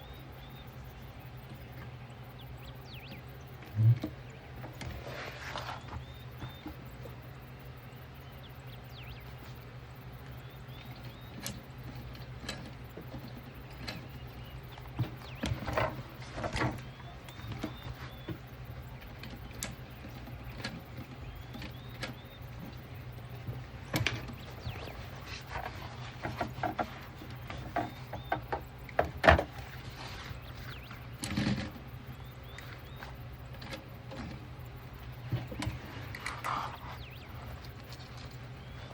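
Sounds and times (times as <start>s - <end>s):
faint bird chirps: 0.0s - 38.9s
steady low hum: 0.0s - 38.9s.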